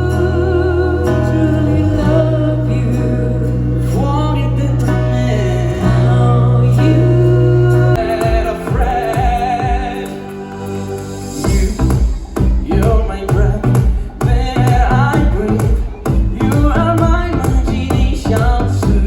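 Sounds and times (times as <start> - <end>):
low bass and instrumental backing: 0.0 - 19.0
person singing with vibrato: 0.0 - 19.0.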